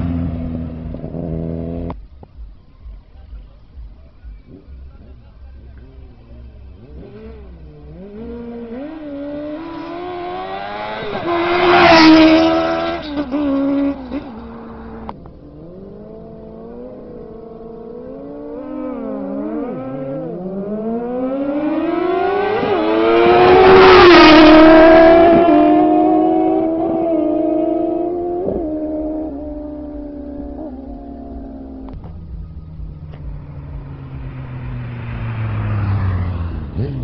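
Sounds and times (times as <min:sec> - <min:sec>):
motorcycles accelerating past: 0:00.0 - 0:02.0, 0:06.3 - 0:37.0.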